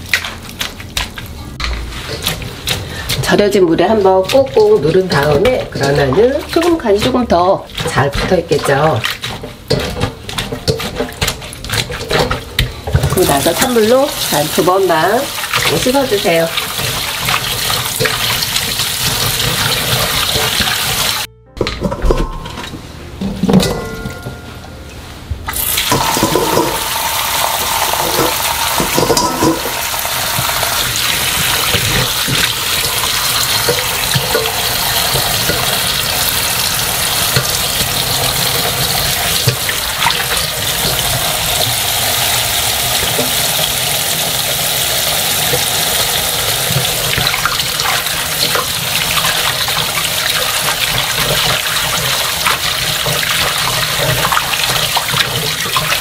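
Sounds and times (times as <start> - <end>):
greens rinsed by hand: 0.0 - 21.3, 25.5 - 56.0
tap water running into basin: 2.1 - 21.3, 25.5 - 56.0.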